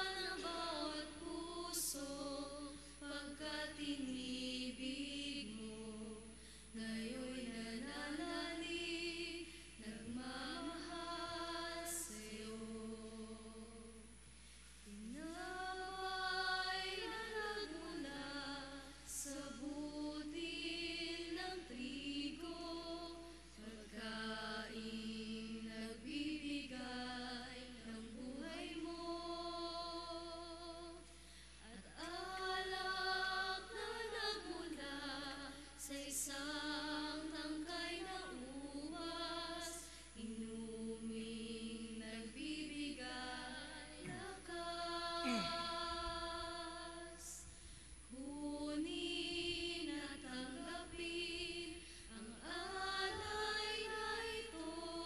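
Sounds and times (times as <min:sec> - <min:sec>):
church choir singing a hymn: 0:00.0 - 0:14.1, 0:14.9 - 0:31.0, 0:31.6 - 0:47.4, 0:48.1 - 0:55.0
low electrical hum: 0:00.0 - 0:55.0.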